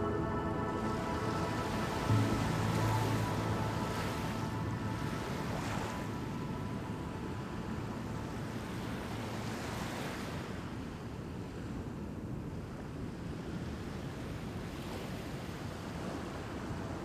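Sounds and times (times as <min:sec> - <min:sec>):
ocean surf washing: 0:00.0 - 0:17.0.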